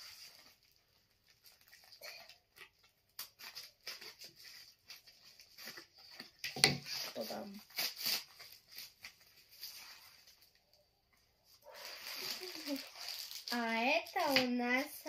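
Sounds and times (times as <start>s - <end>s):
plastic bag crinkling: 0.0s - 10.8s, 11.6s - 15.0s.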